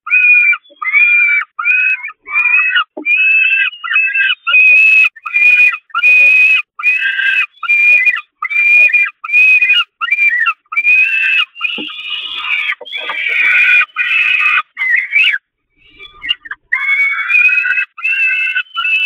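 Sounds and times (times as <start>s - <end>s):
falcon begging calls: 0.0s - 19.0s.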